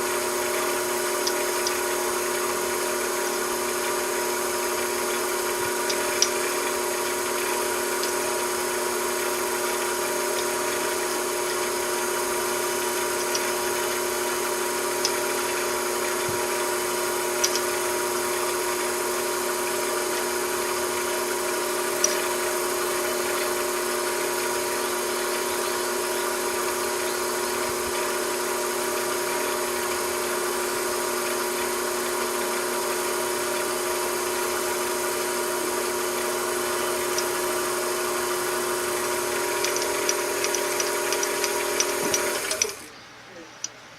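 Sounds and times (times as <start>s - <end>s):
machine tool motor hum: 0.0s - 43.0s.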